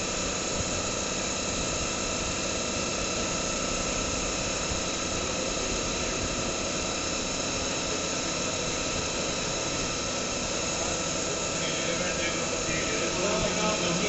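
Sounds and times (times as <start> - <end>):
lathe whining tones: 0.0 - 14.0
mechanical hum: 0.0 - 14.0.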